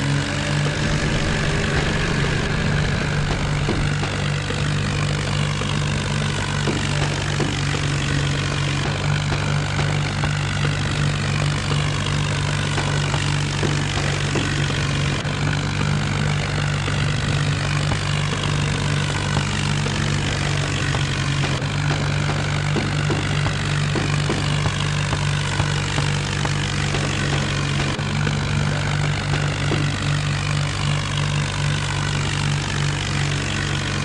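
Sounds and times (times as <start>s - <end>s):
diesel tractor engine droning: 0.0s - 34.0s.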